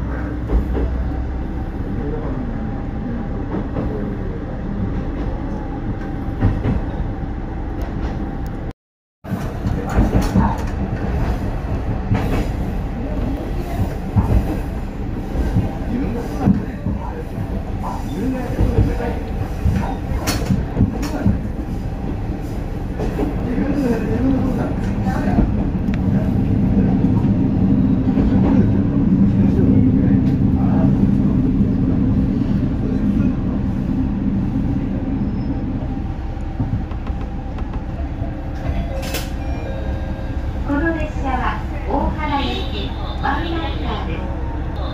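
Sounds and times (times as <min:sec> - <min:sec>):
railcar engine and wheels rumbling: 0:00.0 - 0:44.9.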